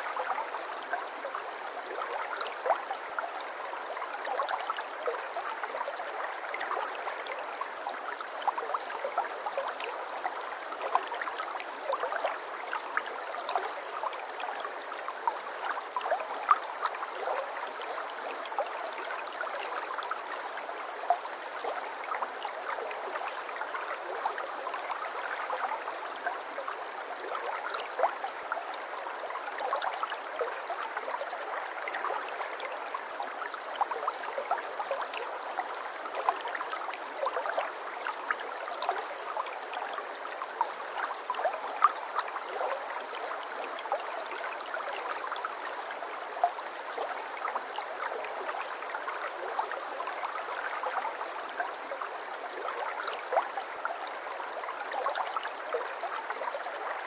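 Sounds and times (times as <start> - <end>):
babbling brook: 0.0 - 57.0.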